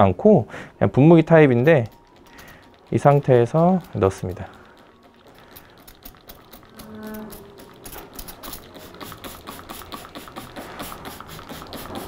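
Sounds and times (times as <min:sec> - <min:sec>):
trigger spray bottle spraying: 0:01.2 - 0:12.0.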